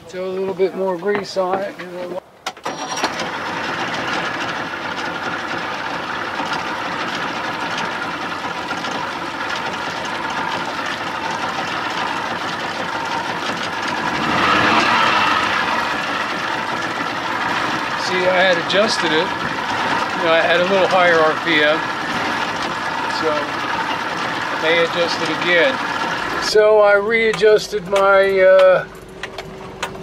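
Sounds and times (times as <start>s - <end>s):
outboard motor idling: 0.0s - 30.0s.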